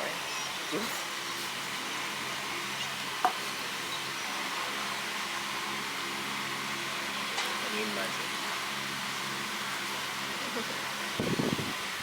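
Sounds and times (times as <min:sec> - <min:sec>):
restaurant room hum: 0:00.0 - 0:12.0.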